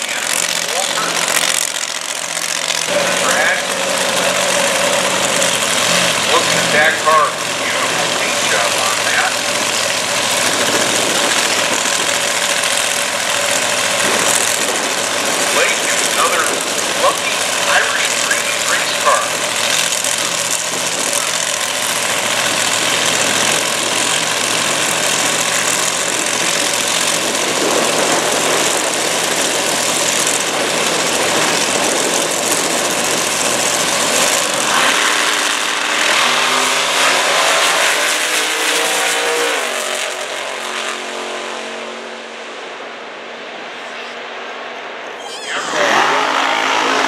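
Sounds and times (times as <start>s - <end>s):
race car engines revving: 0.0s - 47.0s.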